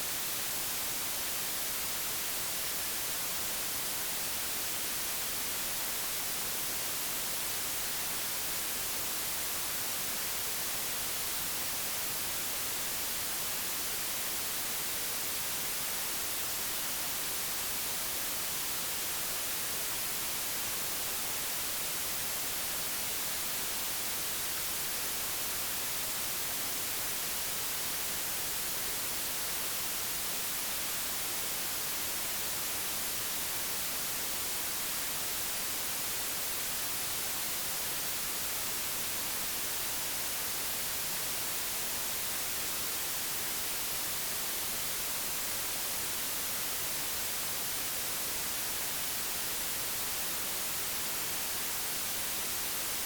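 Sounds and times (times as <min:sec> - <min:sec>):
white noise: 0:00.0 - 0:53.0.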